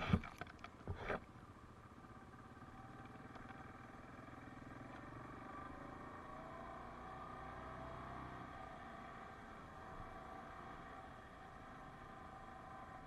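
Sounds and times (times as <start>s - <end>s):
atv engine running: 0.8s - 13.0s.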